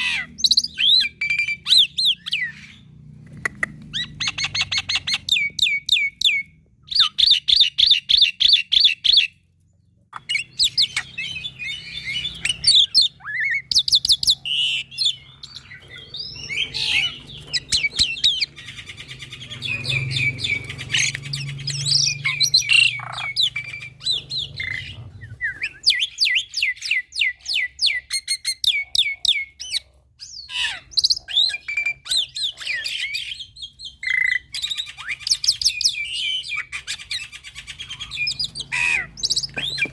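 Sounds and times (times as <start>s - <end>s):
starling singing: 0.0s - 9.4s, 10.1s - 39.9s.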